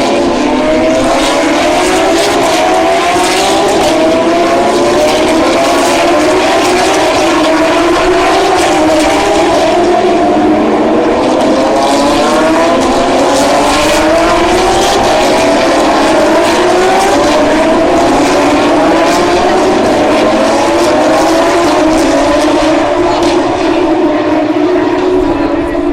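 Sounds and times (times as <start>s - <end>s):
race car engines accelerating: 0.0s - 25.9s.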